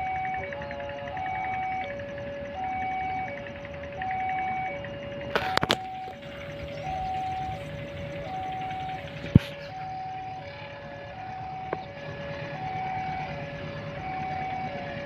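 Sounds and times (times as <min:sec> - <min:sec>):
two-tone electronic warning signal: 0:00.0 - 0:15.0.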